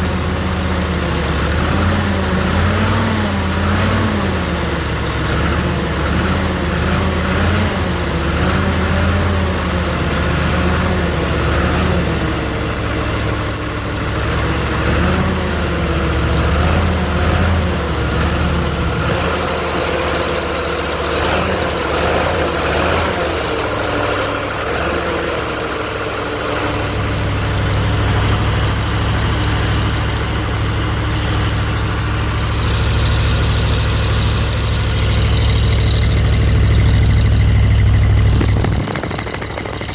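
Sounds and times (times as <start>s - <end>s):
air compressor engine running: 0.0s - 39.9s.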